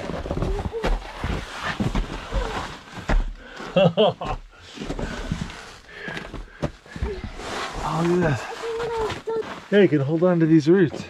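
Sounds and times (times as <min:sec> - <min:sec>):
clothing scraping on rock: 0:00.0 - 0:03.4, 0:04.7 - 0:11.0.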